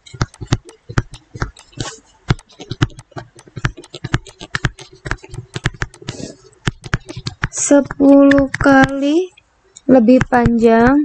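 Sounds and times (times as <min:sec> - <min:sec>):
stylus tapping and scratching: 0:00.0 - 0:11.0.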